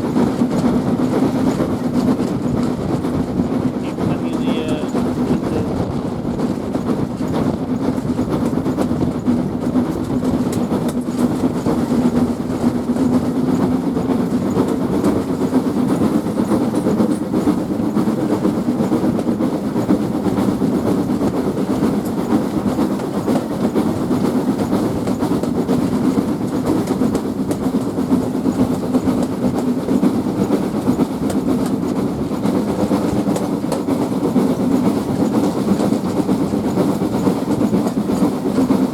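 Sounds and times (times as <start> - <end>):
steam train wheels on track: 0.0 - 38.9.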